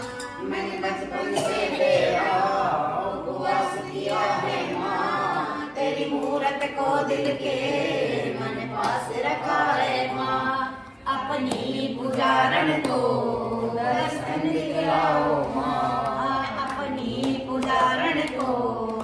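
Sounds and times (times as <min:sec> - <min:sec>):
group singing devotional song: 0:00.0 - 0:19.0.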